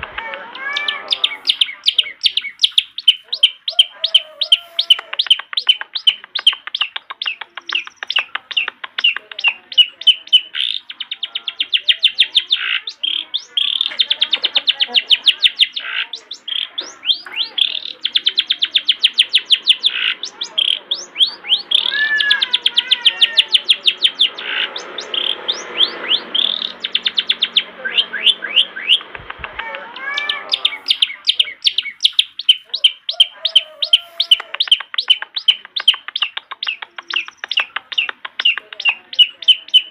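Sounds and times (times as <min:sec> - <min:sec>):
bird warbling lower phrases: 0:00.0 - 0:39.9
bird singing rapid high chirps: 0:00.5 - 0:39.9.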